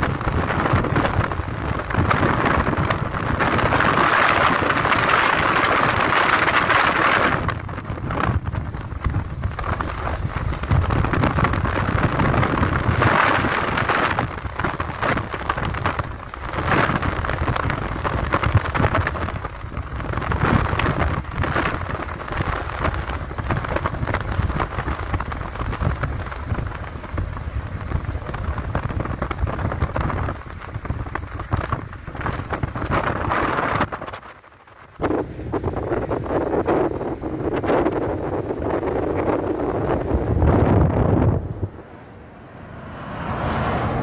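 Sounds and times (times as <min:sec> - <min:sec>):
engine and road rumble: 0:00.0 - 0:44.0
wind buffeting microphone: 0:00.0 - 0:44.0.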